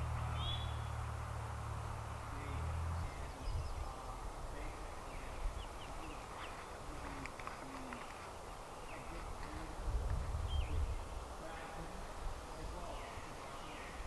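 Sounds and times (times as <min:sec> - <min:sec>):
birds chirping: 0:00.0 - 0:14.0
faint background hiss: 0:00.0 - 0:14.0.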